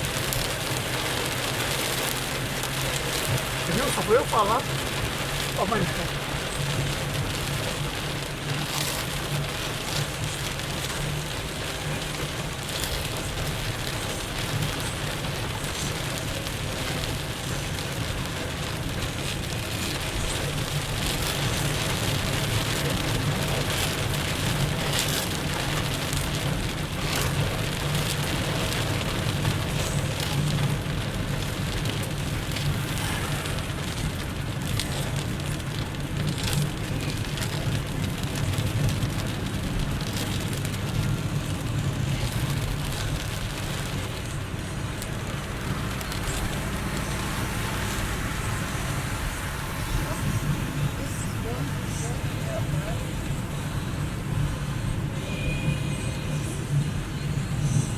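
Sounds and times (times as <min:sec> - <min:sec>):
engine and tyres on wet road: 0:00.0 - 0:57.9
heavy rain on a car: 0:00.0 - 0:57.9.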